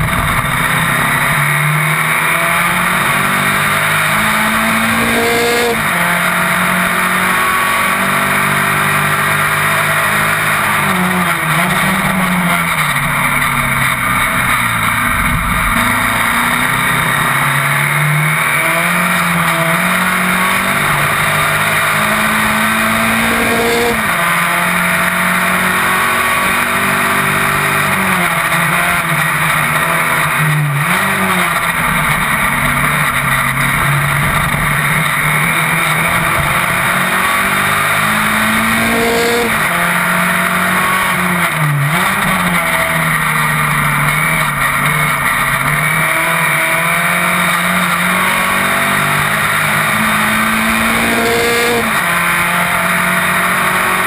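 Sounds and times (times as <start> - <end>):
race car engine at full load: 0.0 - 54.0.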